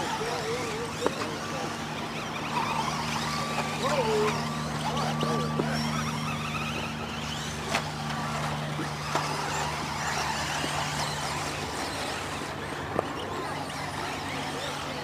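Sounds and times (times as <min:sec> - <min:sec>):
remote control car motors whining: 0:00.0 - 0:15.0
steady low hum: 0:00.0 - 0:15.0.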